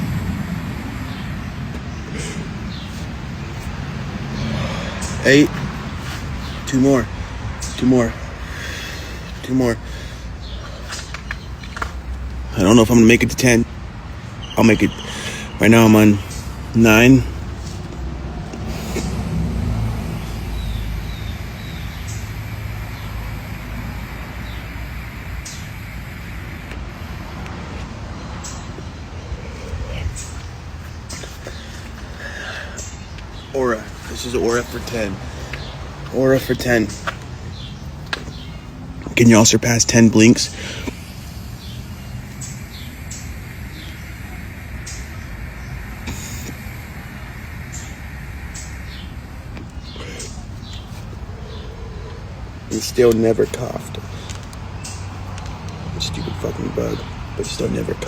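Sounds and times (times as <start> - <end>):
low engine rumble: 0.0 - 58.0
steady low hum: 0.0 - 58.0.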